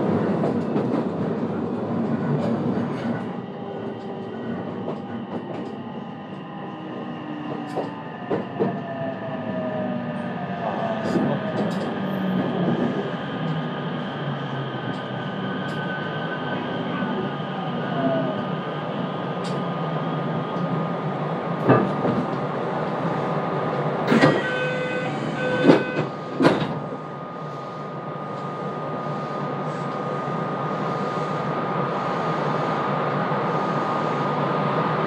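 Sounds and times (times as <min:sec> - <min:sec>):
train rolling rumble: 0:00.0 - 0:35.0.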